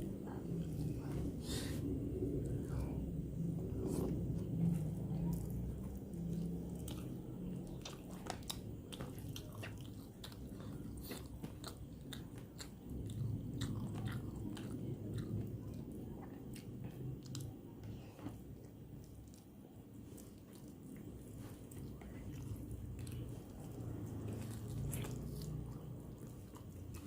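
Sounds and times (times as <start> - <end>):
close chewing with crunches: 1.9 - 27.0.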